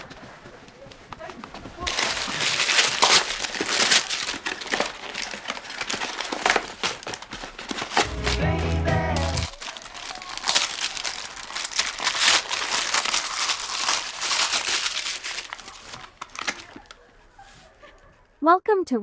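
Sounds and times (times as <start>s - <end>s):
paper crinkling and tearing: 1.6s - 17.6s.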